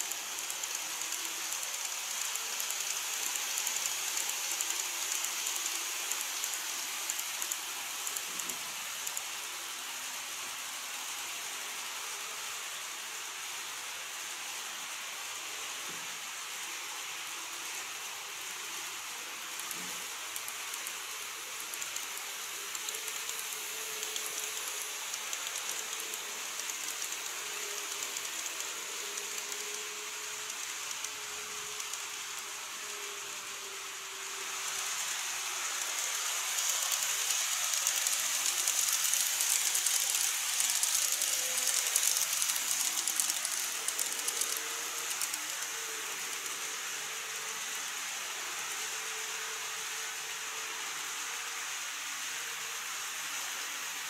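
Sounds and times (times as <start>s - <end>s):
model train wheels rolling: 0.0s - 54.0s.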